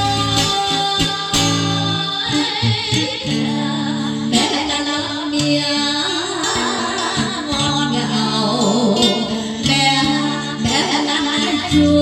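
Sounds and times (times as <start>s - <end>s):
plucked string melody: 0.0s - 12.0s.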